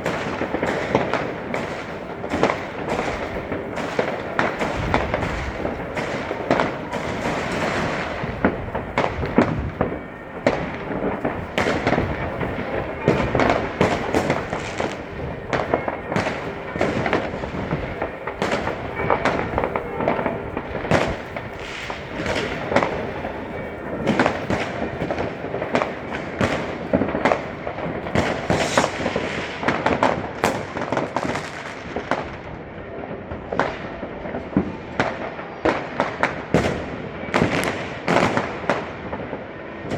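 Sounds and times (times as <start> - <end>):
firecrackers crackling: 0.0 - 39.9
fireworks bangs: 0.0 - 39.9.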